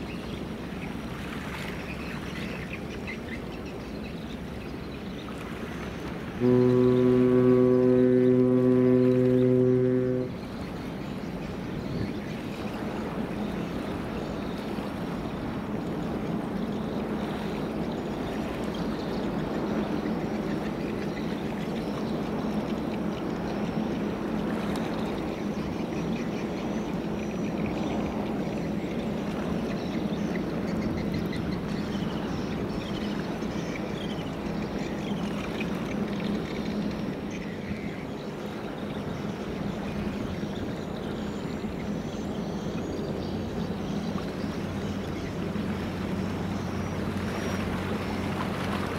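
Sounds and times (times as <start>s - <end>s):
water churning from bow wave: 0.0s - 48.9s
low ship drone: 4.9s - 48.9s.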